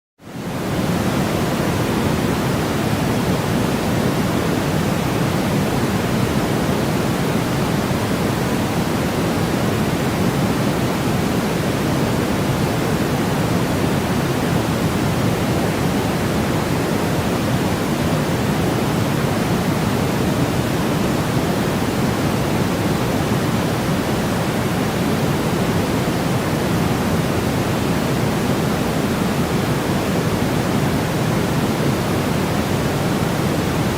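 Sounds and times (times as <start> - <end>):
steady pink noise hiss: 0.2 - 33.9.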